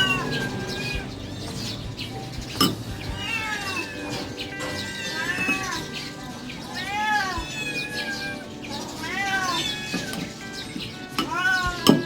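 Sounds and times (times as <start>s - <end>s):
cats meowing: 0.0s - 12.0s.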